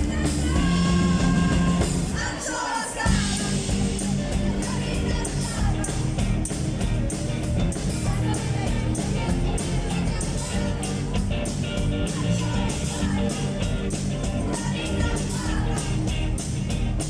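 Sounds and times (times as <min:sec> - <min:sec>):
live rock band playing: 0:00.0 - 0:17.0
steady drum beat: 0:00.0 - 0:17.0
electric guitar: 0:03.0 - 0:17.0.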